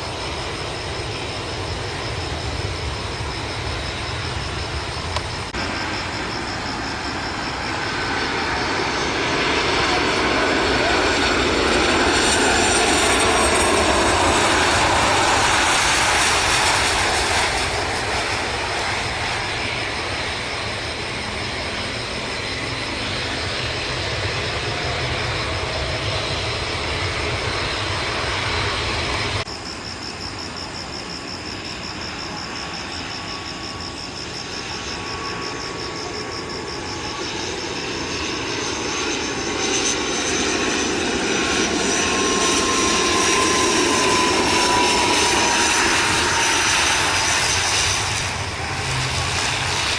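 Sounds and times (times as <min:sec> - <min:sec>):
jet engines landing: 0:00.0 - 0:49.9
turboprop engines whining: 0:00.0 - 0:49.9.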